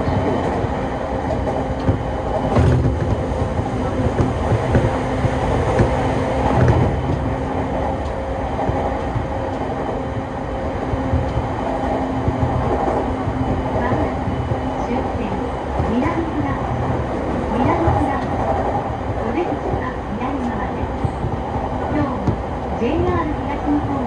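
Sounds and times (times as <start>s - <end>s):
track clicks: 0.0s - 23.9s
constant train hum: 0.0s - 24.0s
train wheels rumbling on rail: 0.0s - 24.0s.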